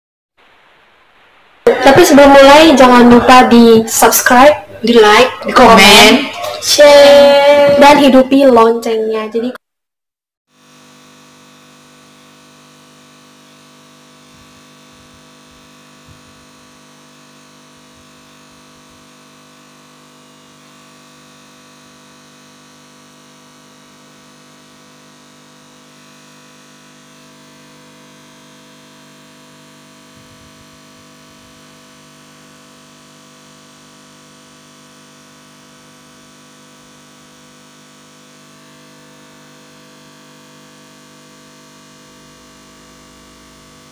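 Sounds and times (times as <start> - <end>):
steady electrical hum: 0.4 - 9.4, 10.6 - 43.9.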